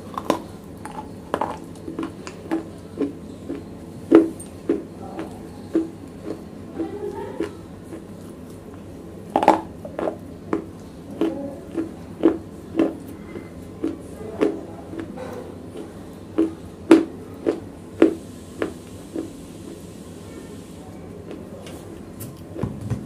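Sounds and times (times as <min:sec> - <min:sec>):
crunchy chewing: 0:00.0 - 0:19.8, 0:21.0 - 0:22.6.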